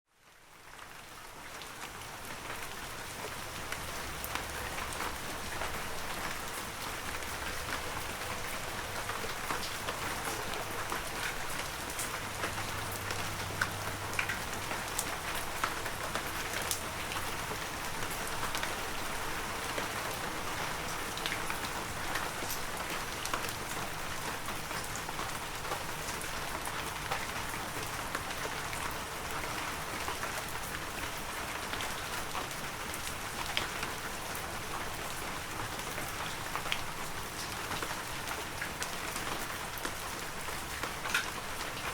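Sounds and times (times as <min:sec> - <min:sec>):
heavy rain falling: 0:00.7 - 0:41.9.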